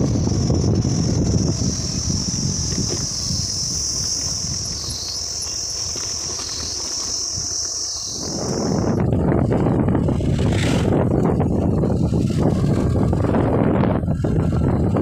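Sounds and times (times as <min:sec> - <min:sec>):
cicadas droning: 0:00.0 - 0:15.0
vehicle rumble: 0:00.0 - 0:15.0
wind on microphone: 0:00.0 - 0:15.0.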